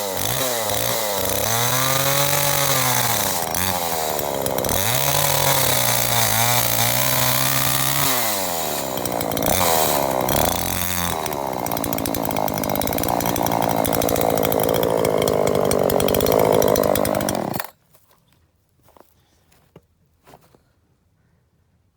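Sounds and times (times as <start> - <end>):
chainsaw running at high revs: 0.0 - 17.7.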